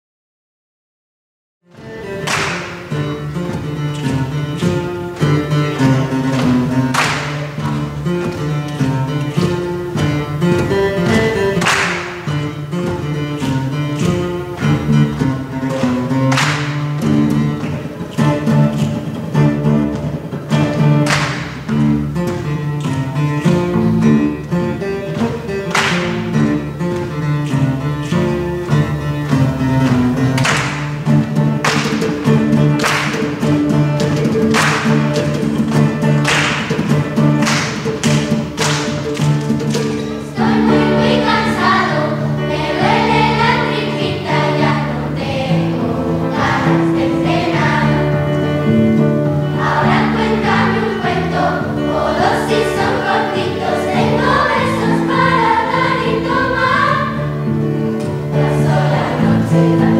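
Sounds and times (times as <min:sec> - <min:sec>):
live guitars playing chords: 0:01.7 - 0:59.9.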